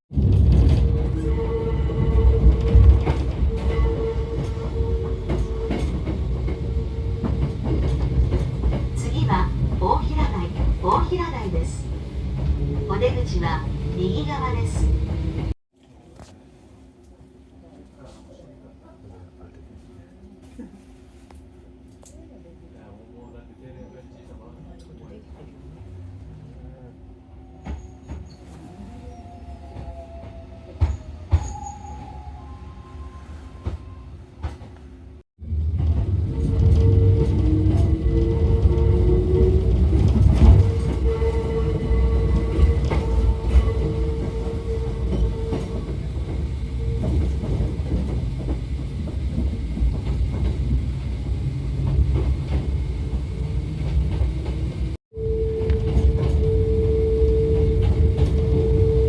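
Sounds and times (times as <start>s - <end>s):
electric train rumbling: 0.1s - 15.6s, 18.3s - 59.0s.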